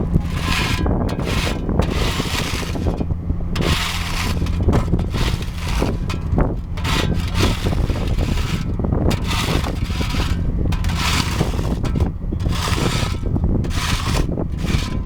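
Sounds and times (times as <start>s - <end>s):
diesel engine running: 0.0s - 15.0s
scraping and grinding: 0.0s - 15.0s.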